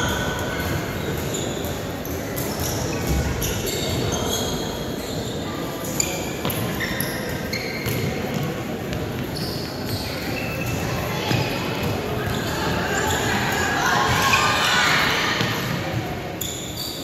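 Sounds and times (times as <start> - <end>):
sneakers squeaking on gym floor: 0.0 - 13.4, 15.5 - 17.0
spectators' voices: 0.0 - 17.0.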